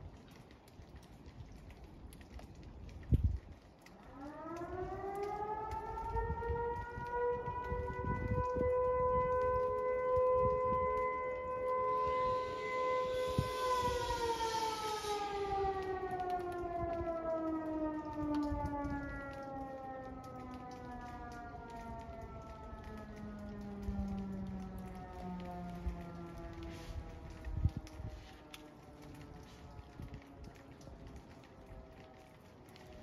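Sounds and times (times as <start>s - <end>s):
motor-driven fire siren wailing: 2.3s - 33.0s.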